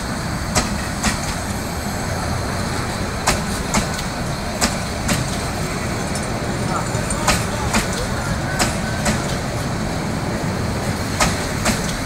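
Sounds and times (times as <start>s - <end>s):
wheels clicking over rail joint: 0.0s - 1.7s, 2.7s - 10.0s, 10.7s - 12.0s
train wheels rumbling on rail: 0.0s - 12.0s.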